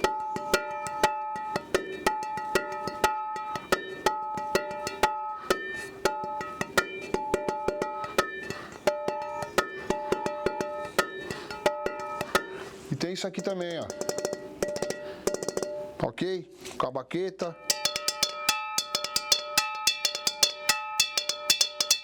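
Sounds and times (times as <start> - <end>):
frying pan struck with a stick: 0.0 - 12.7, 13.4 - 16.0, 17.6 - 22.0.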